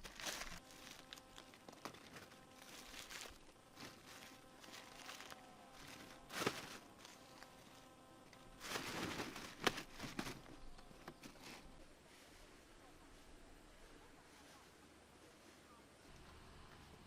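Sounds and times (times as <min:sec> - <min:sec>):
faint rustling: 0:00.0 - 0:16.2.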